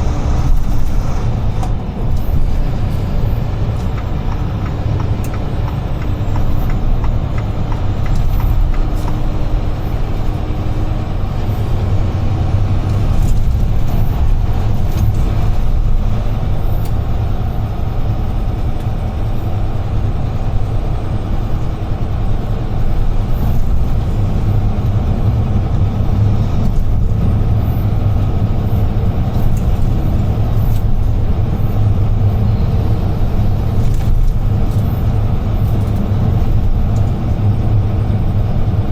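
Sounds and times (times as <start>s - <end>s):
road noise: 0.0s - 38.9s
truck diesel engine droning: 0.0s - 38.9s.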